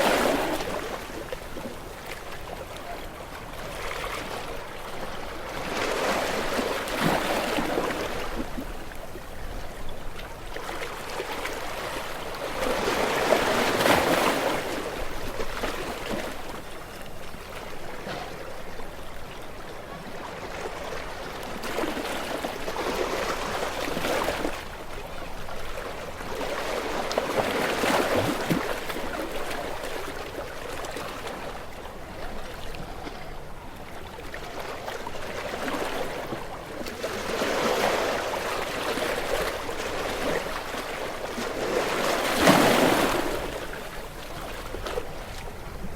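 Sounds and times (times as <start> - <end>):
ocean waves washing on shore: 0.0 - 45.9.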